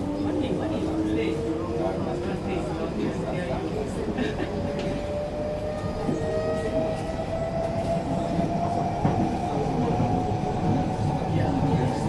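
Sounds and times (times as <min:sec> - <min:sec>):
train rumble and rail noise: 0:00.0 - 0:12.0.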